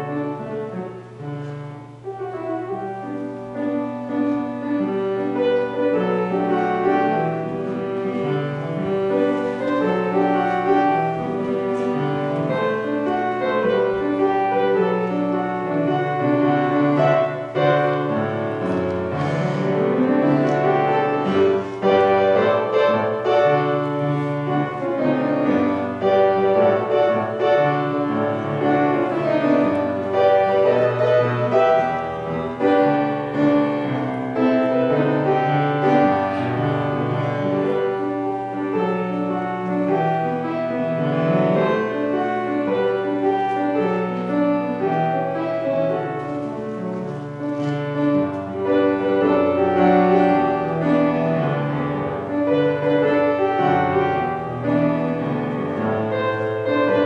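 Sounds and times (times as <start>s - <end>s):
slow classical keyboard piece: 0.0s - 57.0s.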